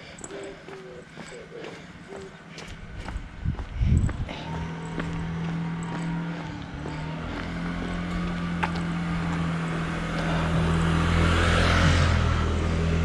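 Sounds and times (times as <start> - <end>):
low engine hum: 0.0 - 13.0
vehicle passing: 0.0 - 13.0.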